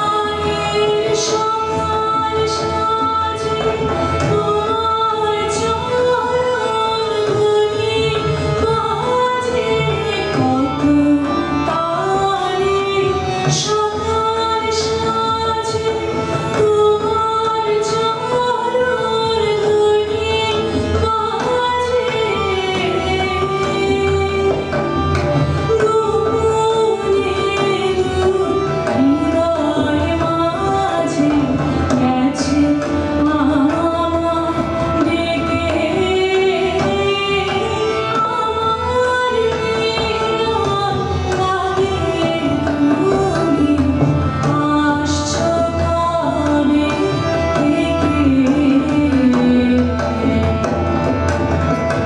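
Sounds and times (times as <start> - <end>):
woman singing: 0.0 - 50.8
harmonium: 0.0 - 52.0
tabla: 0.0 - 52.0.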